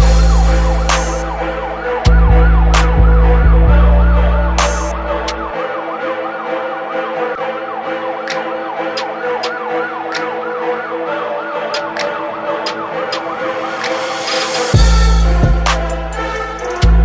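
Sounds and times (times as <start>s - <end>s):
siren yelping: 0.0s - 17.0s.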